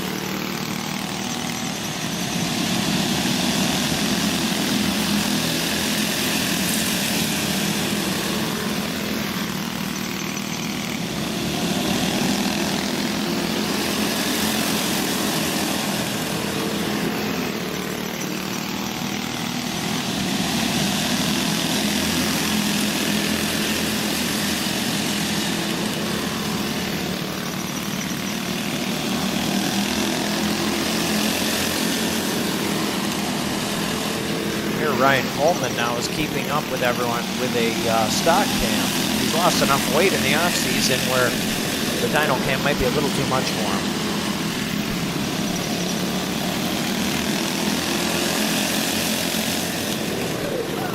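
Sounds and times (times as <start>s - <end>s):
go-kart engines racing: 0.0s - 50.9s.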